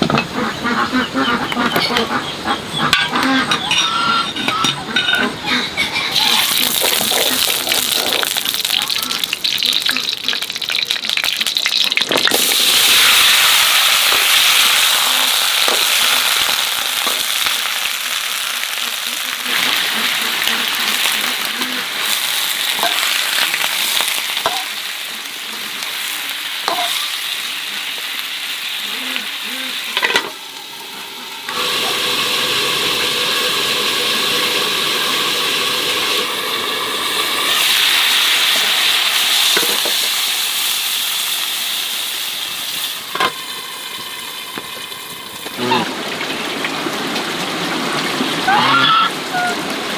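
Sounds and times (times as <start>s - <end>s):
food sizzling in hot oil: 6.1s - 49.6s.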